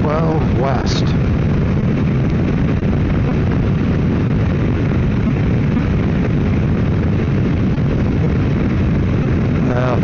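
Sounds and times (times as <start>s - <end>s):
motorcycle engine: 0.0s - 10.0s
road noise: 0.0s - 10.0s
wind rushing on microphone: 0.0s - 10.0s.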